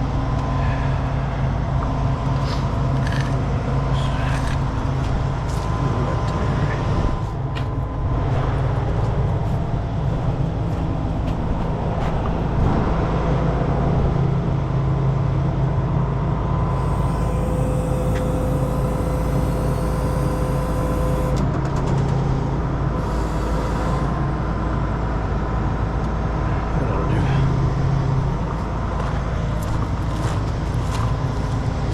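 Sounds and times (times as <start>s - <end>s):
higher whine: 0.0s - 31.9s
truck diesel engine running: 0.0s - 31.9s.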